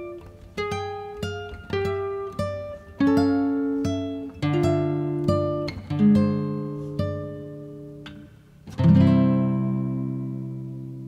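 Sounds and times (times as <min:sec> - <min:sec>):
acoustic guitar plucked notes: 0:00.0 - 0:11.0.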